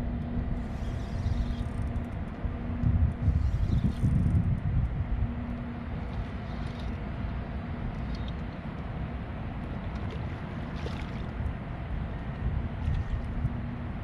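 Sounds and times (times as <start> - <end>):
faint steady hum: 0.0 - 14.0
wind rumbling on microphone: 0.0 - 14.0.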